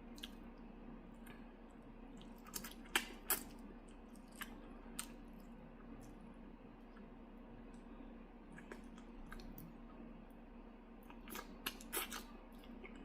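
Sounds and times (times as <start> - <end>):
person chewing food: 0.0 - 10.4, 11.0 - 13.0
faint steady hum: 0.0 - 13.0.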